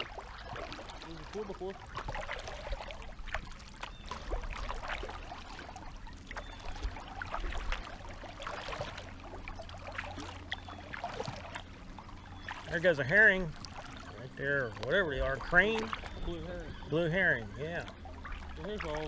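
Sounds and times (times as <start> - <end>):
water dripping off paddle: 0.0 - 16.8
paddle splashes: 0.0 - 19.0.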